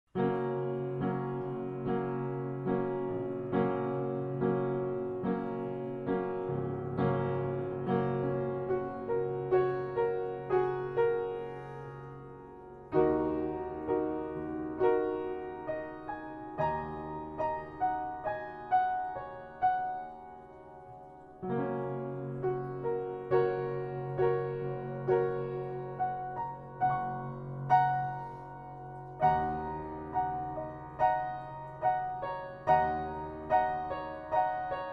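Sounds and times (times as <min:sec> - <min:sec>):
slow gentle piano music: 0:00.1 - 0:34.9.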